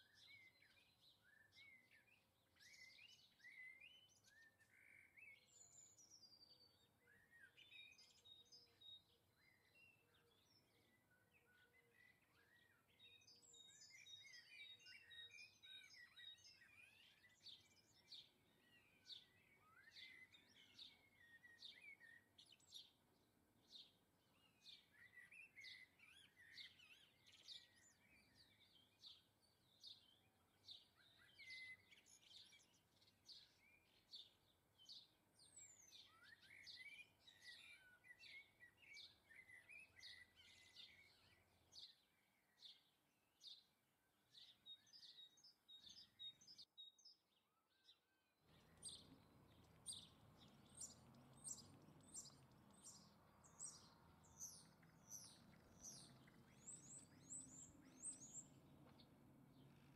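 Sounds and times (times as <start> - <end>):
background noise: 0.0 - 59.9
small birds chirping: 0.0 - 59.9.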